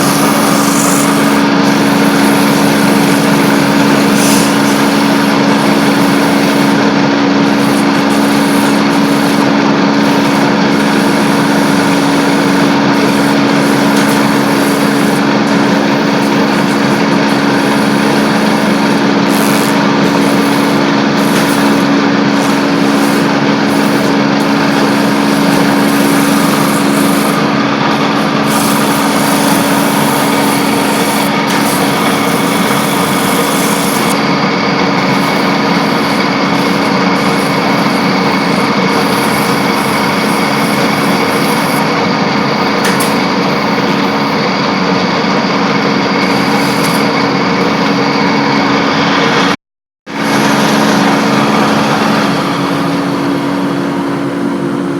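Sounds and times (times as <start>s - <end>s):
wood lathe running: 0.0s - 54.9s.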